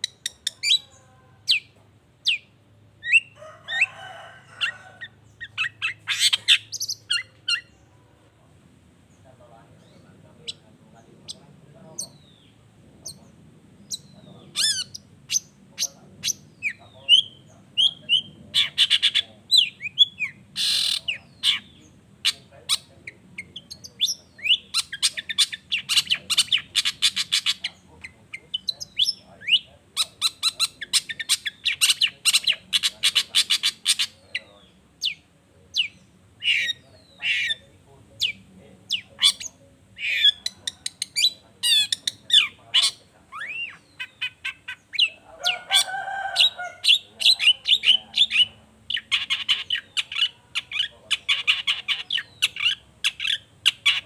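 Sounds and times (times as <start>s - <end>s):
harsh rapid-fire bird chattering: 0.0s - 7.8s, 9.1s - 54.0s.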